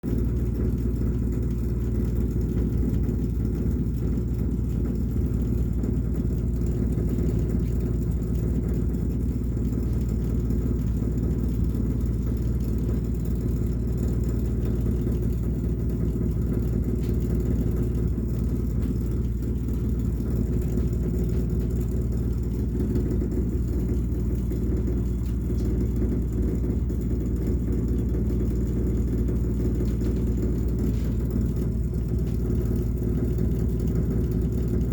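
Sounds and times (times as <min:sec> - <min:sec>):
low rumbling hum: 0:00.0 - 0:34.9.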